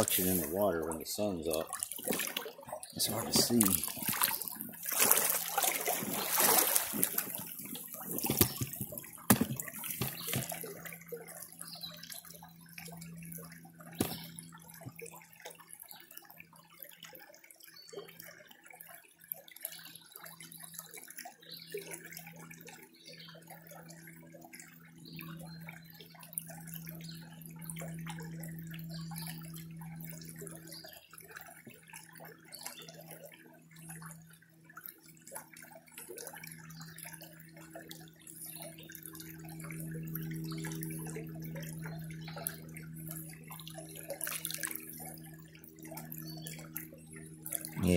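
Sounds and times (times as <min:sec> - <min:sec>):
water splashing and sloshing: 0:00.0 - 0:47.9.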